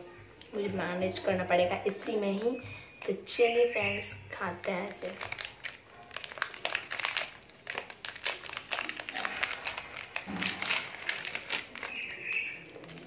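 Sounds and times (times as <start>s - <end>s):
plastic wrapper crackling: 0.0s - 13.0s.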